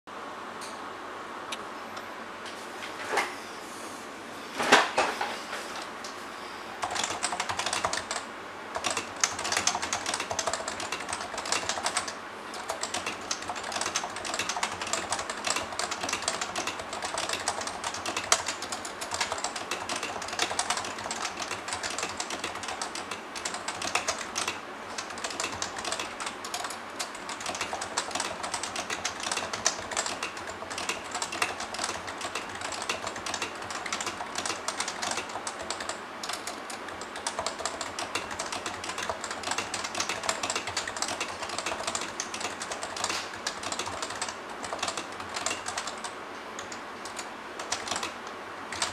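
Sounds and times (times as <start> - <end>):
fast keyboard typing: 6.8 - 48.9.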